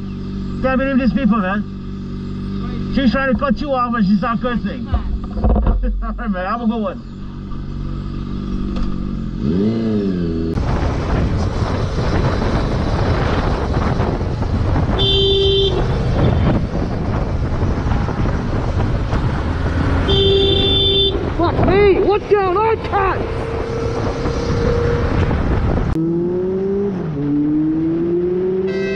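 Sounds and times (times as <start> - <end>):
motorcycle riding at speed: 0.0 - 28.9.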